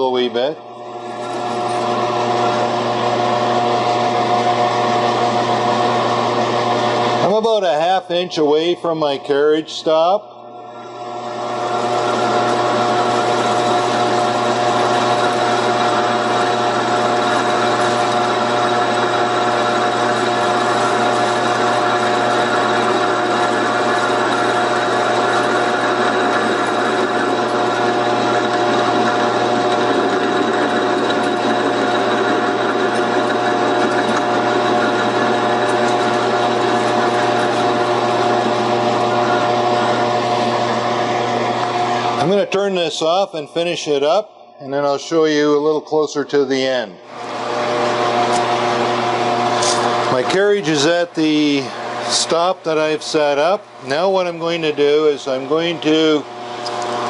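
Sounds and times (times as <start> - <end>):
cutter turning metal stock: 0.0 - 7.6, 8.4 - 42.6, 47.0 - 57.0
metal lathe whining: 0.0 - 57.0.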